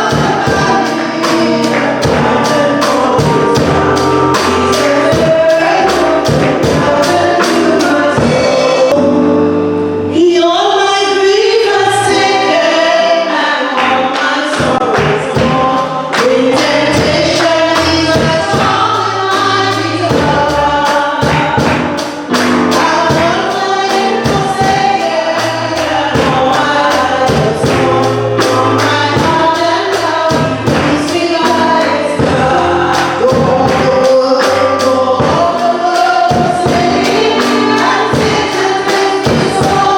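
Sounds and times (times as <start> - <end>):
gospel choir singing with band: 0.0 - 39.9.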